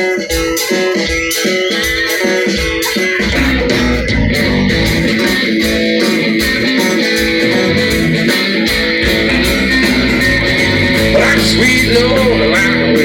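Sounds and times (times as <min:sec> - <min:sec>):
country-rock band playing: 0:00.0 - 0:13.0
electric guitar: 0:00.0 - 0:13.0.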